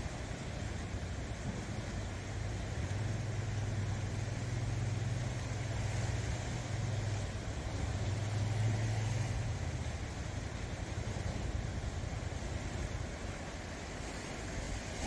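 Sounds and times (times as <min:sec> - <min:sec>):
low engine hum: 0:00.0 - 0:15.0
sea waves washing over rocks: 0:00.0 - 0:15.0.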